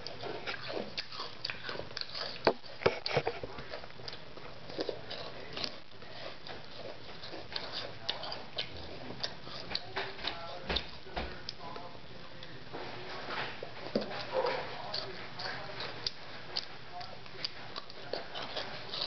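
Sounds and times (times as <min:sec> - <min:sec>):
child chewing crunchy cereal: 0:00.0 - 0:19.0.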